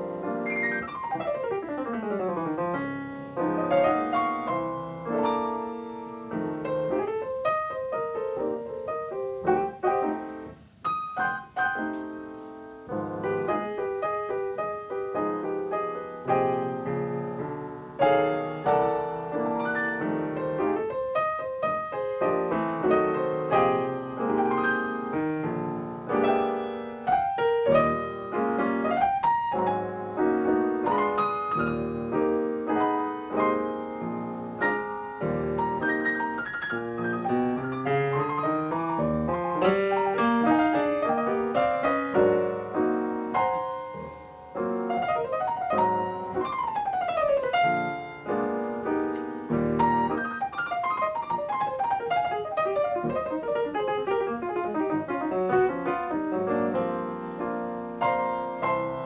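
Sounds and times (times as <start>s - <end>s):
solo jazz piano: 0.0s - 59.0s.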